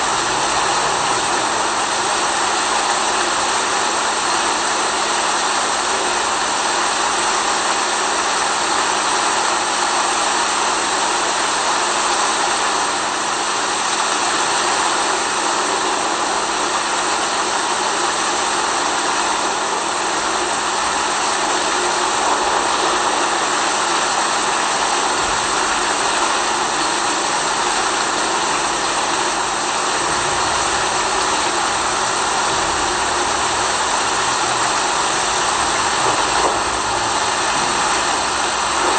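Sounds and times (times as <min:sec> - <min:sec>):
rain-like hiss: 0:00.0 - 0:38.9.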